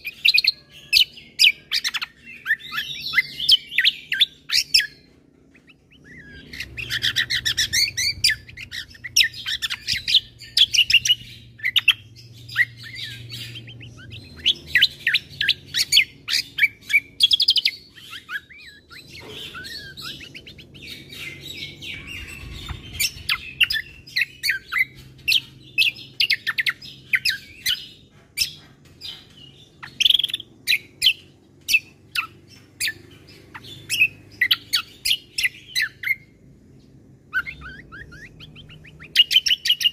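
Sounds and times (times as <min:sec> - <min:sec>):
bird song of rapid chirps and trills: 0:00.0 - 0:39.9.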